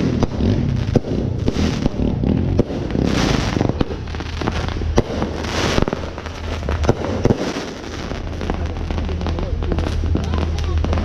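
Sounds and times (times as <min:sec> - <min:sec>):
fireworks bangs and pops: 0:00.0 - 0:11.0
fireworks hissing rushes: 0:00.0 - 0:11.0.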